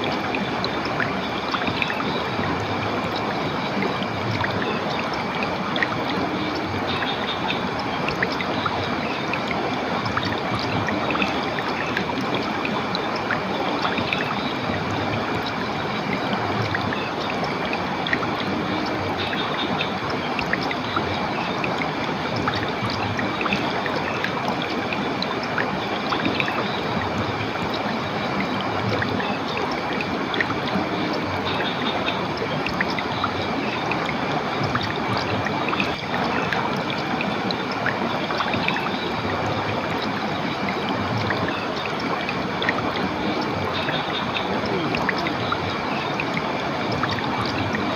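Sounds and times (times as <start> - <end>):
small water splashes: 0.0 - 47.9
stream water running: 0.0 - 47.9.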